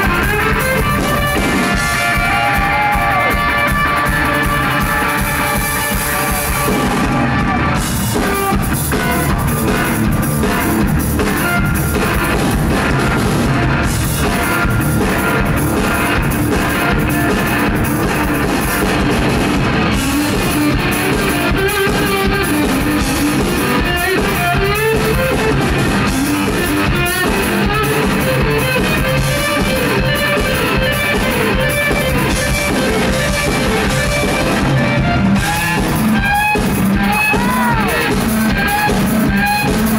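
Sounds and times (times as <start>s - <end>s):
drum kit beat: 0.0s - 39.9s
electric guitar lead lines: 0.0s - 39.9s.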